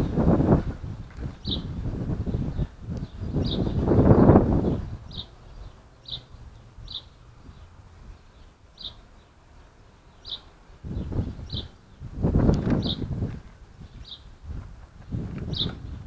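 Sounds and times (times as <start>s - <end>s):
wind on the microphone: 0.0s - 8.9s, 10.2s - 16.0s
bird chirping: 1.4s - 13.1s, 13.8s - 14.3s, 15.0s - 16.0s.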